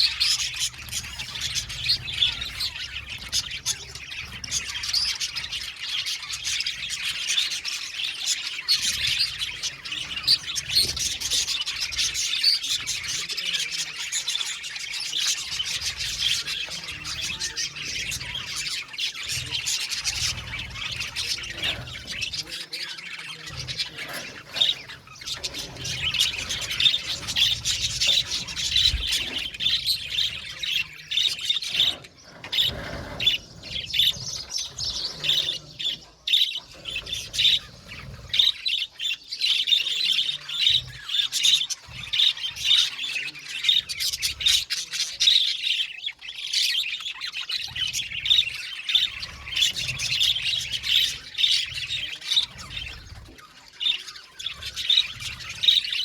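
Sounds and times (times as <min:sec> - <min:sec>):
bird squawks: 0:00.0 - 0:56.0
budgerigars chattering: 0:00.0 - 0:56.0.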